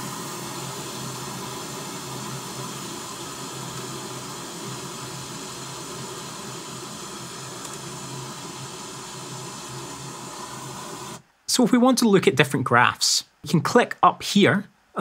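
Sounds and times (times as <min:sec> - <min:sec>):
test noise hiss from loudspeaker: 0:00.0 - 0:15.0.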